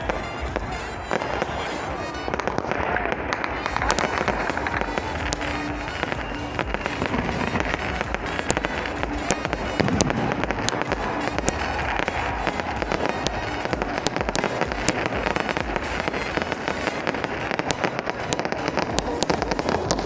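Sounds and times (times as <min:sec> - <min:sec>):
fireworks crackling and cracking: 0:00.0 - 0:20.0.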